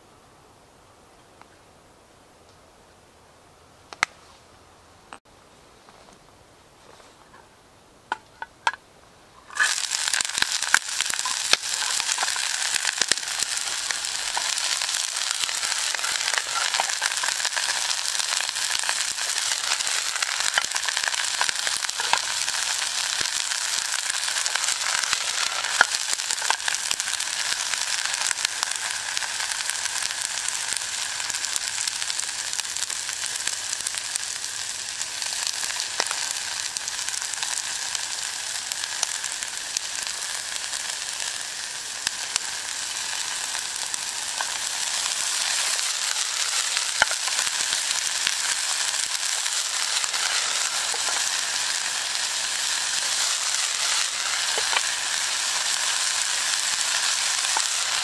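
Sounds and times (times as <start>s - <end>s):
vegetables sizzling in a pan: 9.4s - 58.0s.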